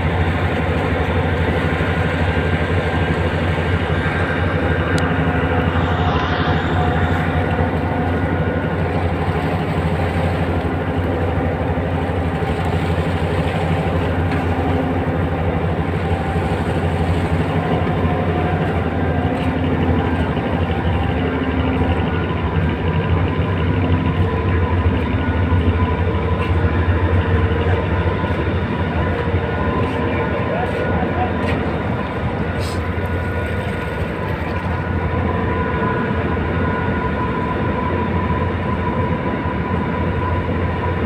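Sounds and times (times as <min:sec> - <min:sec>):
tugboat diesel engine drone: 0:00.0 - 0:41.0.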